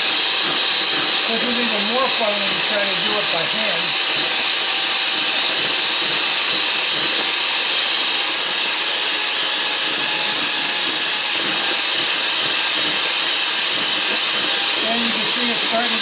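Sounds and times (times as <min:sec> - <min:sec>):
electric hand mixer whipping cream: 0:00.0 - 0:16.0.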